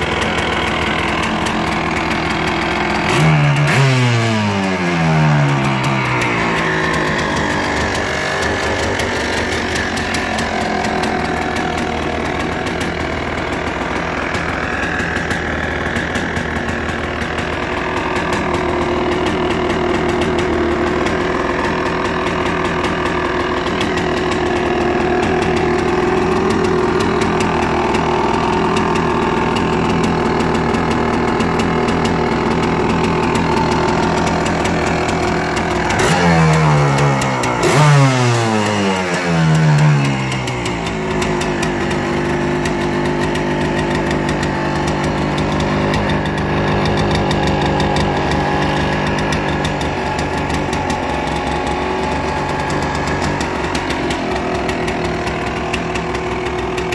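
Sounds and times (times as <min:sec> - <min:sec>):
engine revving: 0:00.0 - 0:56.9
two-stroke engine idling: 0:00.0 - 0:56.9.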